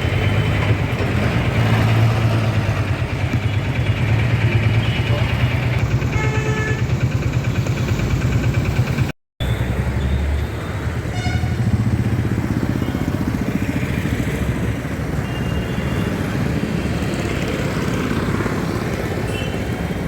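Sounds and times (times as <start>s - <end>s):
motorcycle engines running: 0.0s - 10.0s, 10.7s - 20.0s
road traffic: 0.0s - 20.0s.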